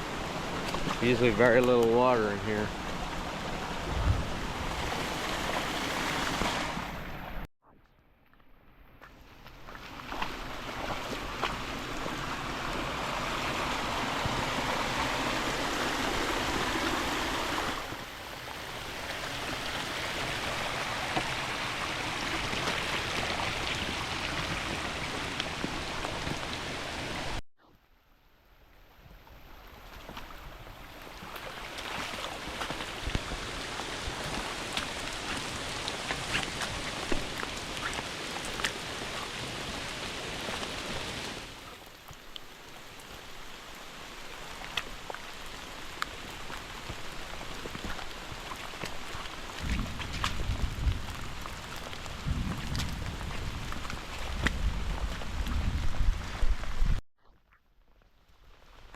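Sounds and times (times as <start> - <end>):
creek rushing: 0.0 - 7.5, 9.7 - 27.4, 29.9 - 52.2
steady rain: 0.0 - 7.5, 10.4 - 27.4, 28.8 - 57.0.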